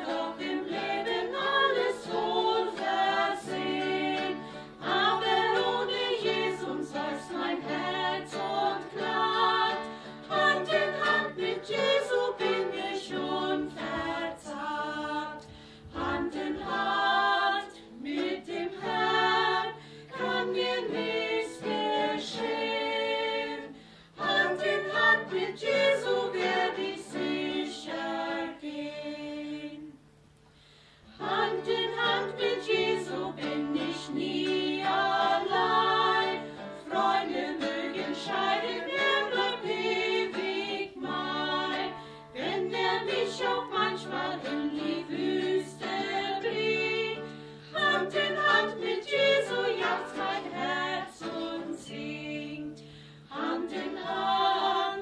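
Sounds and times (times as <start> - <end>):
women singing a hymn in harmony: 0.0 - 30.0, 31.1 - 55.0
acoustic guitar: 0.0 - 55.0.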